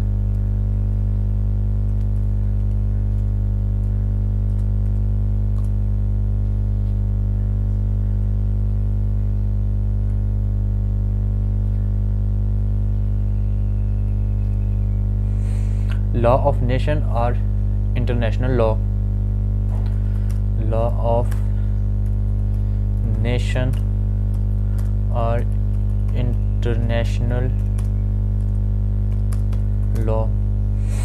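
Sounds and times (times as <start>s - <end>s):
low hum with overtones: 0.0s - 31.0s.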